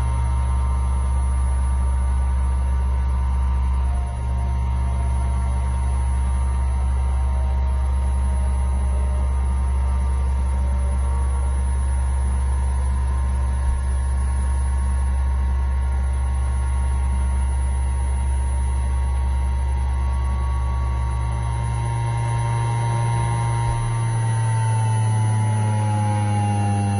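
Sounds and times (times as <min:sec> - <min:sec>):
high machine whine: 0:00.0 - 0:26.9
machine hum: 0:00.0 - 0:26.9.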